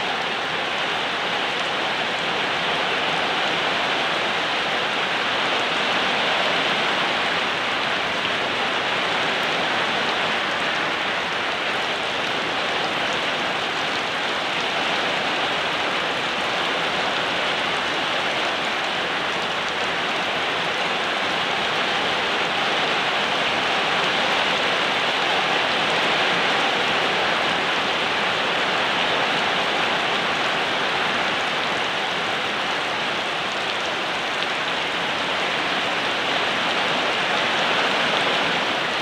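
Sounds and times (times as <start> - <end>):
steady rainfall: 0.0 - 39.0.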